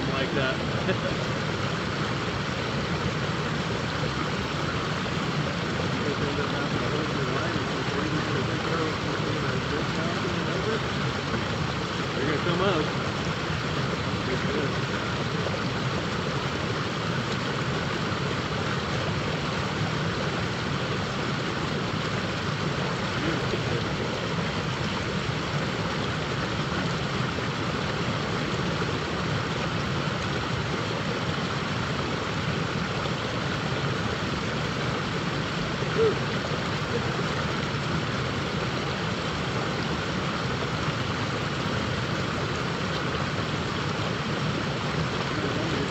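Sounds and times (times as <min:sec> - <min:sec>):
river water rushing over rocks: 0:00.0 - 0:45.9.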